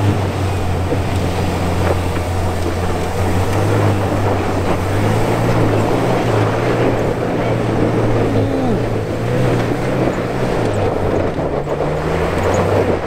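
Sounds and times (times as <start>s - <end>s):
engine running hard under load: 0.0s - 13.0s
tyres churning dirt: 0.0s - 13.0s.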